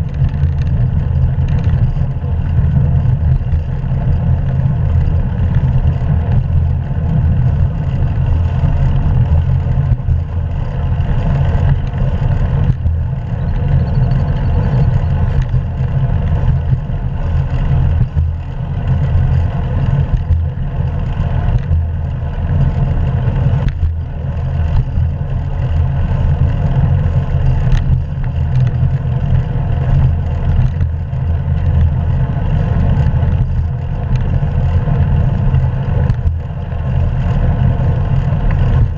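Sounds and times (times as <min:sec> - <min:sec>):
tyre noise on road: 0:00.0 - 0:38.9.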